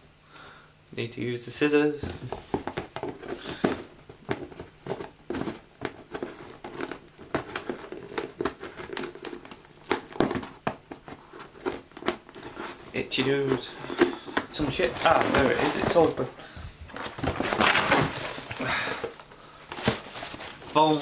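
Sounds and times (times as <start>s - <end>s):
packaging crinkling and tearing: 2.4s - 16.3s, 16.9s - 21.0s.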